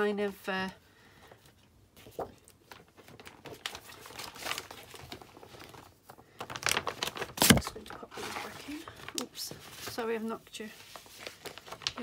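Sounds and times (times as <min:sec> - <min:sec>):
paper sheets rustling: 0:01.2 - 0:12.0.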